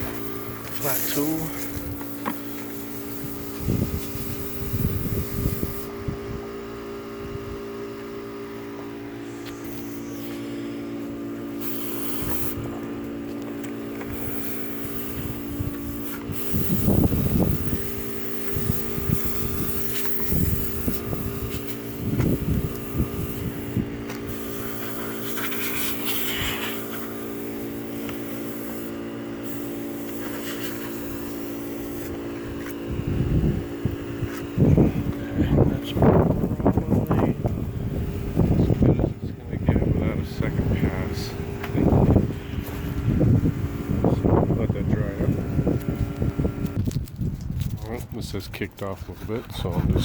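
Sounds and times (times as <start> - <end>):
fan or motor humming: 0.0 - 50.0.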